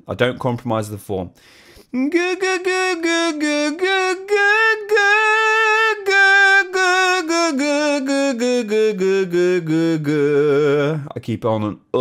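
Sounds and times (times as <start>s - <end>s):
man singing vocal exercise: 1.8s - 12.0s.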